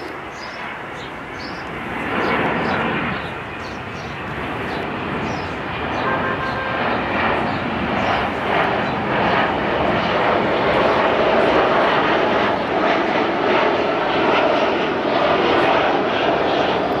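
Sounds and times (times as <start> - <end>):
jet engines passing overhead: 0.0 - 17.0.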